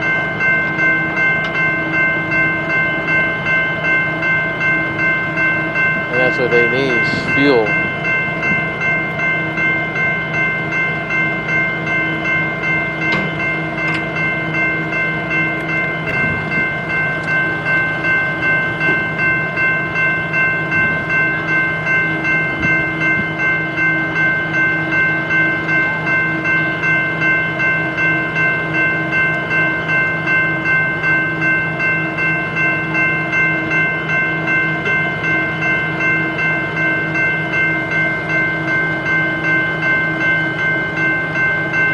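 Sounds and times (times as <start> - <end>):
diesel locomotives idling: 0.0 - 41.9.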